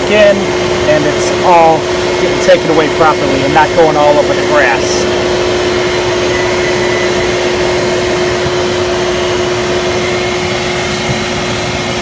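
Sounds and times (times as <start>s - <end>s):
shop vac whining: 0.0s - 12.0s.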